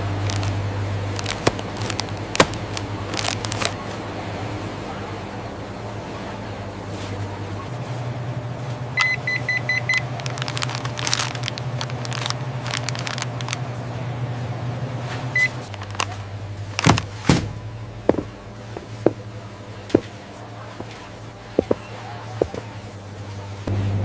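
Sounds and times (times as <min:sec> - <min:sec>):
steady electric hum: 0:00.0 - 0:24.0.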